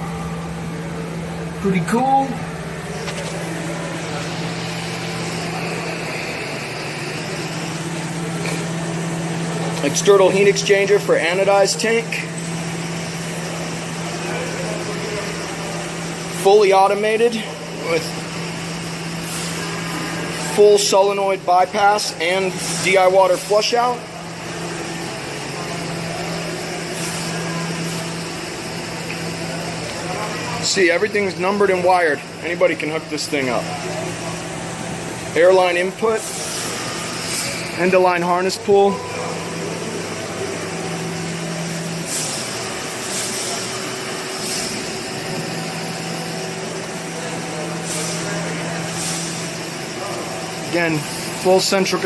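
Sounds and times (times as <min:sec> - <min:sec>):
machinery hum: 0:00.0 - 0:52.0.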